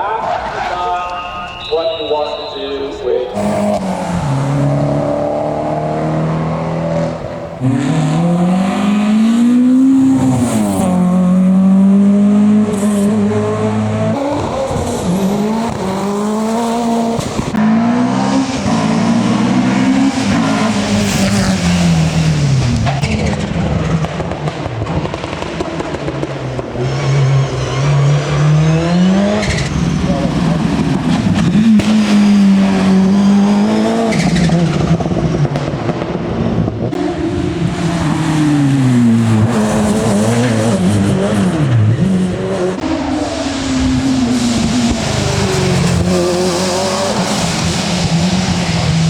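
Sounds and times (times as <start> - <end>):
racing car engine accelerating: 3.2 - 49.0.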